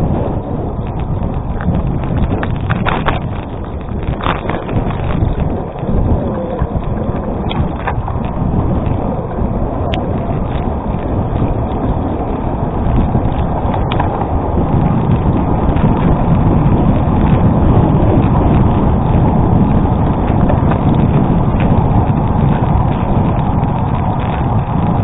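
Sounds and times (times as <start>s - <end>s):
bike rattling: 0.0s - 25.0s
bike tyres crunching on gravel: 0.0s - 25.0s
wind on microphone: 0.0s - 25.0s.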